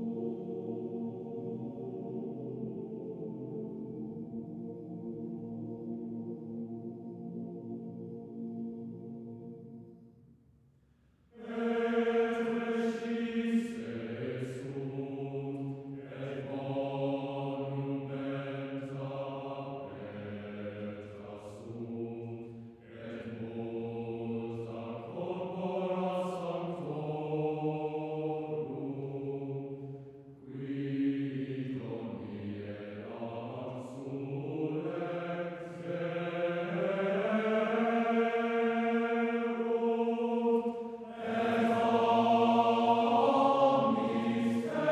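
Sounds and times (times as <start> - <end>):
choir singing chant-like chords: 0.0 - 10.2, 11.3 - 44.9.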